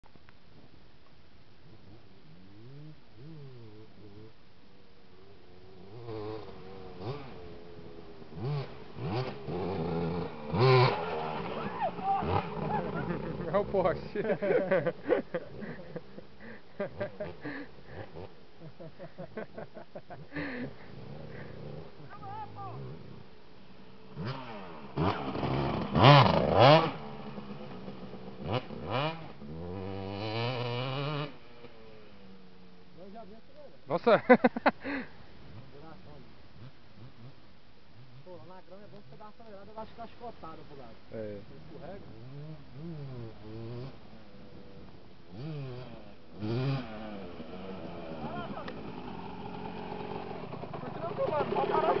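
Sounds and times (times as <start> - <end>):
motocross bike engines revving: 1.6 - 52.0.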